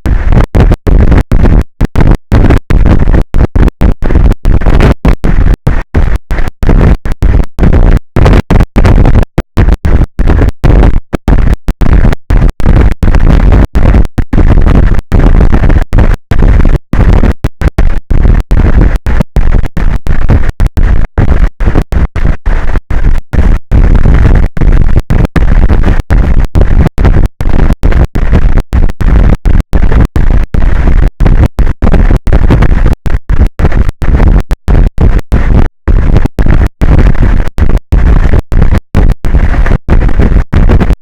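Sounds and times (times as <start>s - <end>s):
distorted crackling microphone noise: 0.0s - 41.0s.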